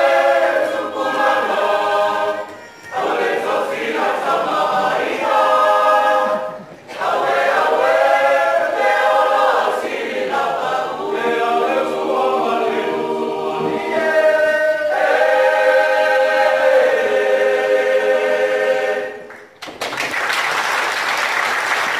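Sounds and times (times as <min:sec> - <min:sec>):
choir singing a cappella: 0:00.0 - 0:19.6.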